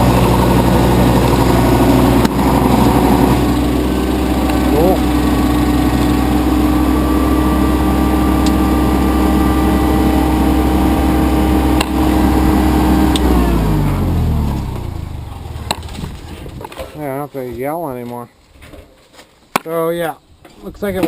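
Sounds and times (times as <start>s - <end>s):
generator engine running: 0.0s - 16.9s.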